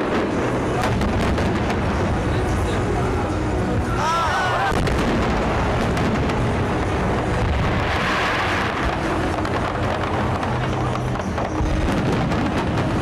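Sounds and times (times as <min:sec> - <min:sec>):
firework crackling: 0:00.0 - 0:04.0, 0:04.6 - 0:13.0.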